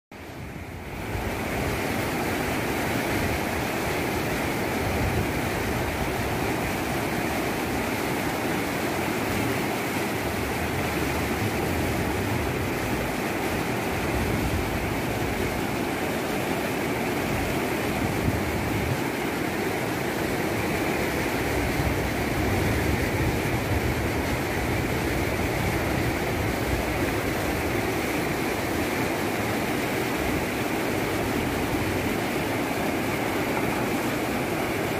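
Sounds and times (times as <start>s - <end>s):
floodwater rushing: 0.2s - 34.9s.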